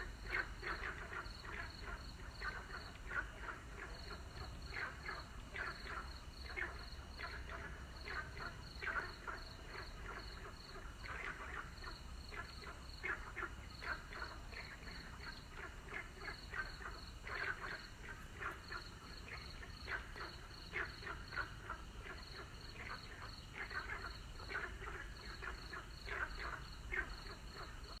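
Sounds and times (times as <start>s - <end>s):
frogs croaking: 0.0s - 28.0s.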